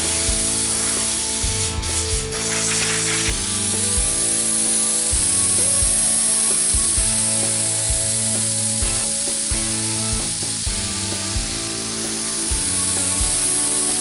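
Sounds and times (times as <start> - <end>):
background music with beat: 0.0 - 14.0
paint spray gun hissing: 0.0 - 14.0.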